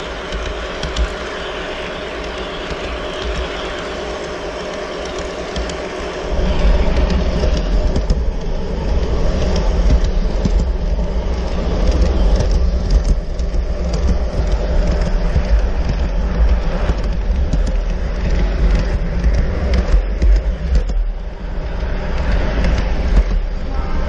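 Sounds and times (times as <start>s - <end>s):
model train wheels rumbling: 0.0s - 24.0s
small track clicks: 0.0s - 24.0s.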